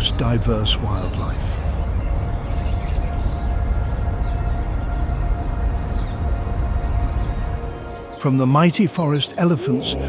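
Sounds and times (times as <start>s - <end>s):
deep rumble: 0.0s - 8.1s
held droning tones: 0.0s - 8.2s.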